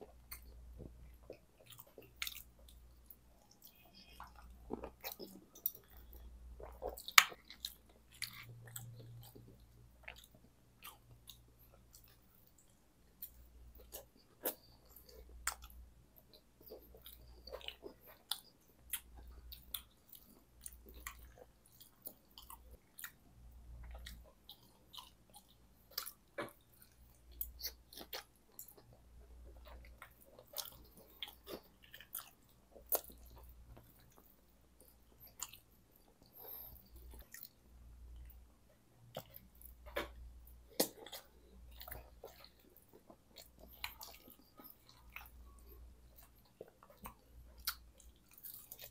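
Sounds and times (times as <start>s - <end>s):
chewing and biting fries: 0.0s - 48.9s.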